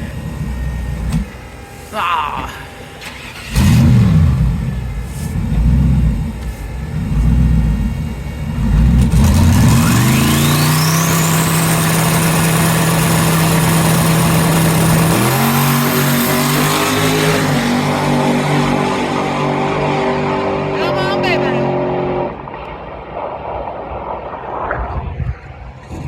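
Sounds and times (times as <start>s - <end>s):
drag car engine pulsing: 0.0s - 26.0s
high turbo whine rising: 0.0s - 26.0s.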